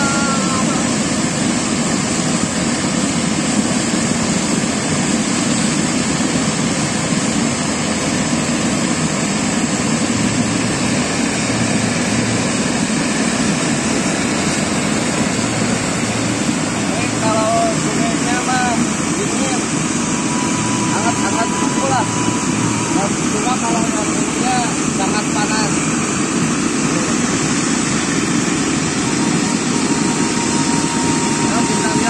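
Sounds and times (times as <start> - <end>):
geyser venting steam: 0.0 - 32.0
river flowing over rocks: 0.0 - 32.0.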